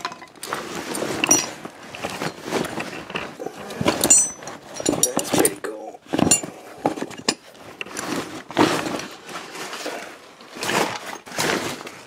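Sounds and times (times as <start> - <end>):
rustling of rope and fabric: 0.0 - 12.0.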